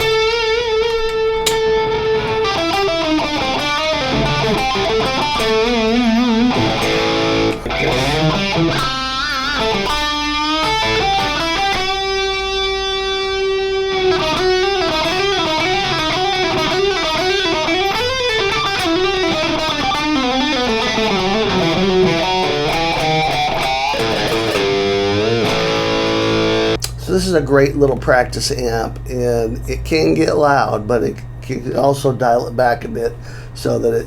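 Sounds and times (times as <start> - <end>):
distorted electric guitar lead: 0.0 - 31.4.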